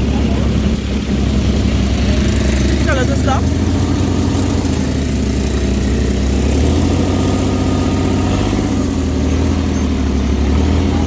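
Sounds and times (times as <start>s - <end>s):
buggy engine humming: 0.0s - 11.0s.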